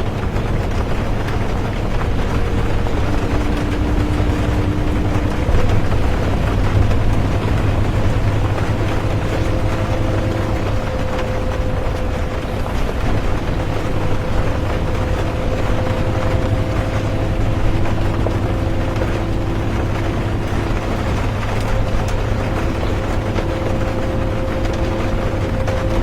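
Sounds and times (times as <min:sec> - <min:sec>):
bus engine rumble: 0:00.0 - 0:26.0
rain: 0:00.0 - 0:26.0
road noise: 0:00.0 - 0:26.0
thin steady whine: 0:00.0 - 0:26.0.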